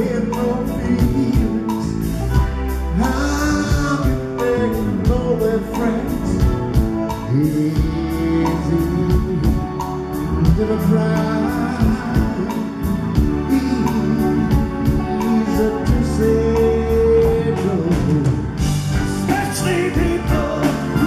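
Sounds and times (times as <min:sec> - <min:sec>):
live rock band playing: 0:00.0 - 0:21.0
man singing: 0:00.0 - 0:21.0.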